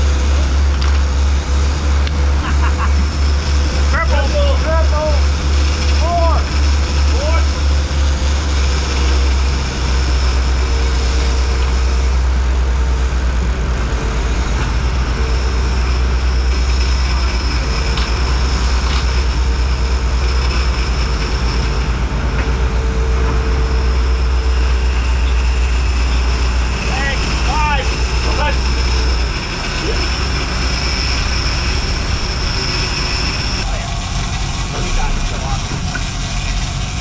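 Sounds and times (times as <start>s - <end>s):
boat engines droning: 0.0s - 37.0s
churning wake water: 0.0s - 37.0s.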